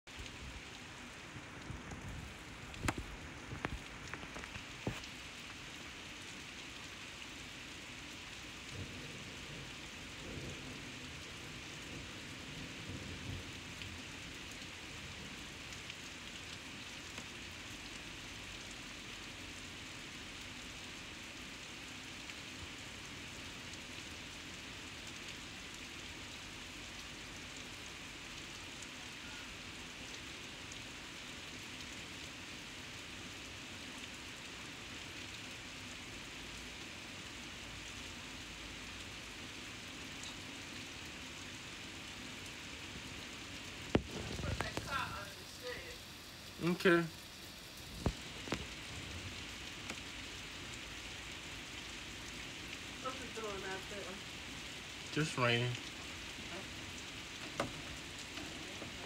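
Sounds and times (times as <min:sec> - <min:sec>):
rain falling on grass: 0:00.1 - 0:59.0.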